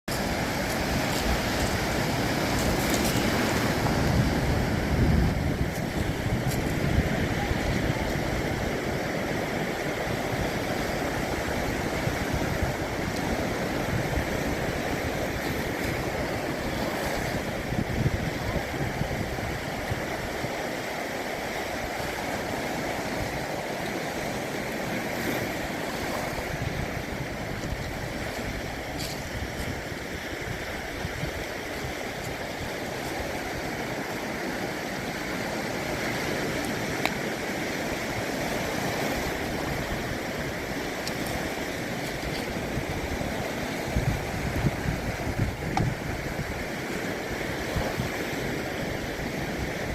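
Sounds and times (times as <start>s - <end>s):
sea waves washing onto shore: 0.0s - 49.9s.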